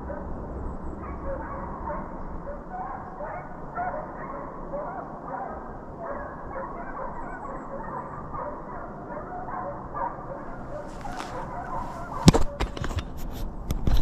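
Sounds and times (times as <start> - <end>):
hounds baying and yelping: 1.0 - 13.2.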